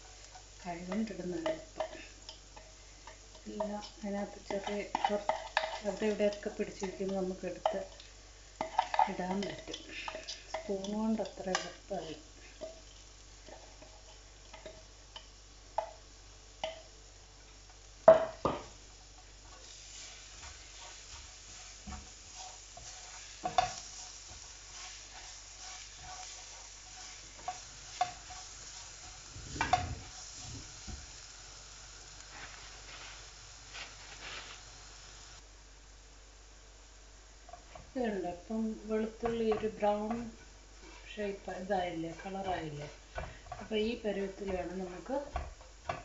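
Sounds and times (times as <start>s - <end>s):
spatula scraping a pan: 0.0s - 15.9s, 18.5s - 31.3s, 32.3s - 34.6s, 39.0s - 46.0s
garlic sizzling in a pan: 0.0s - 46.0s.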